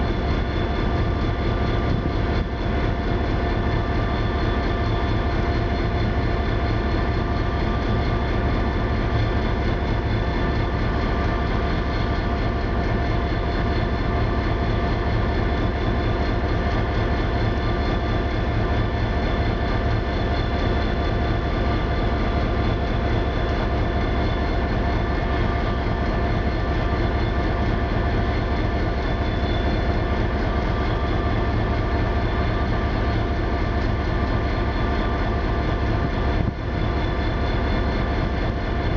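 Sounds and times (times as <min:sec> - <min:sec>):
locomotive diesel engine drone: 0:00.0 - 0:38.9
steady whining tones: 0:00.0 - 0:38.9.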